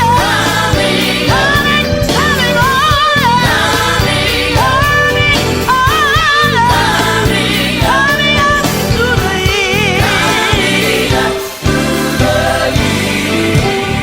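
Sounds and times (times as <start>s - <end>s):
bass: 0.0s - 14.0s
steady drum beat: 0.0s - 14.0s
vocal group singing in harmony: 0.0s - 14.0s.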